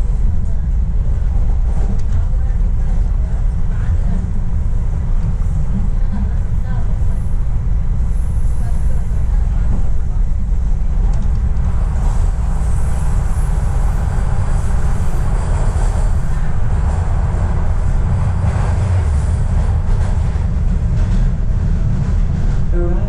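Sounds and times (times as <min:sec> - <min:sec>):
subway train wheels rumbling on rail: 0:00.0 - 0:23.0.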